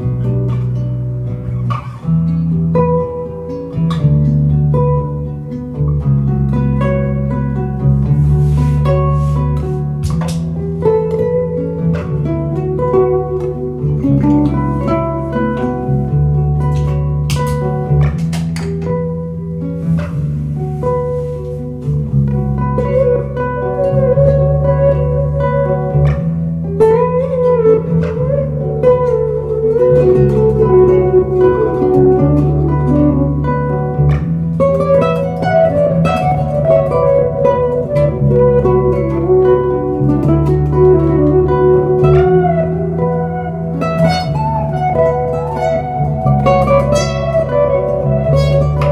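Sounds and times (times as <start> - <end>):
classical guitar fingerstyle: 0.0 - 48.9.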